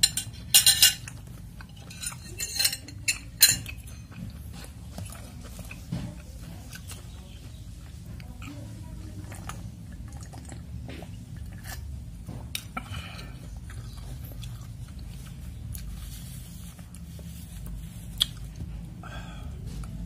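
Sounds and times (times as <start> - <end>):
person chewing food: 0.0 - 2.3, 2.9 - 20.0.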